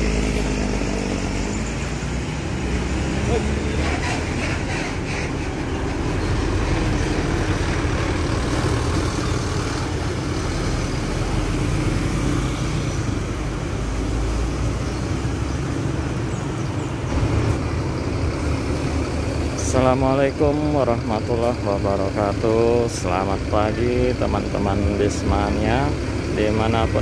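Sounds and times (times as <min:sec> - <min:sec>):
bus engines and traffic rumble: 0:00.0 - 0:27.0.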